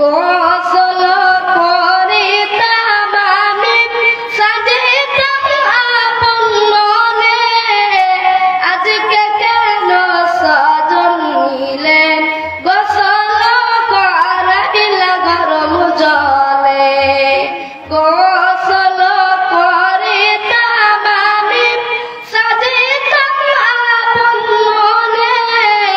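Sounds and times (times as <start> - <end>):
boy singing into microphone: 0.0 - 25.9.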